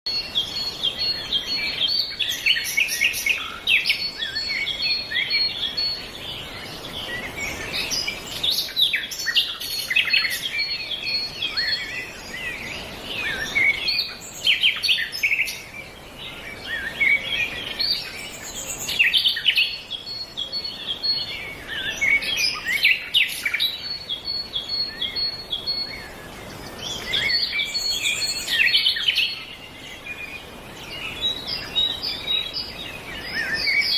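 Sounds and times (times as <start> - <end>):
songbirds chirping and singing: 0.1 - 33.9.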